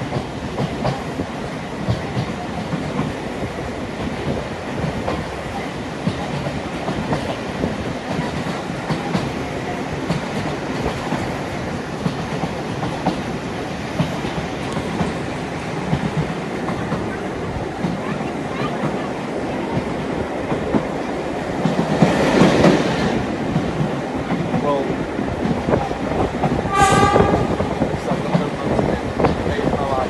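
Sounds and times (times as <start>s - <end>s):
rail joint clicks and knocks: 0.0s - 18.2s, 19.7s - 30.0s
train wheels rumbling on track: 0.0s - 30.0s.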